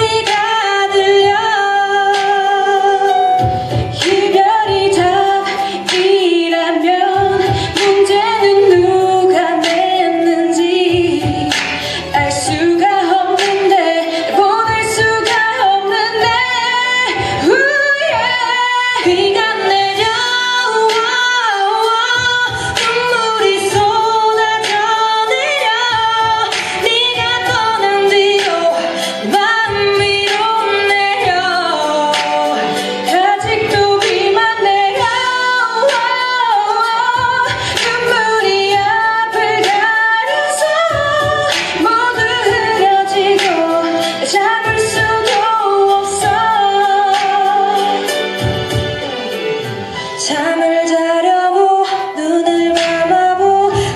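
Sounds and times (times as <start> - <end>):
backing music with a steady beat: 0.0 - 53.9
women singing a pop ballad: 0.0 - 53.9.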